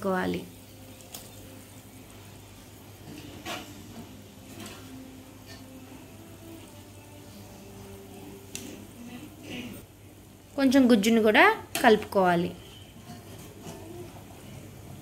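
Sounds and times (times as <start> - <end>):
gas burner hum: 0.0 - 15.0.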